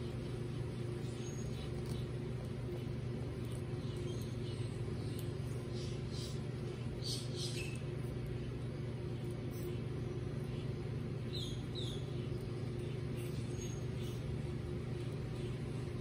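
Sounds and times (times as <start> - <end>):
steady low hum: 0.0 - 16.0
tortoises crunching lettuce: 0.0 - 16.0.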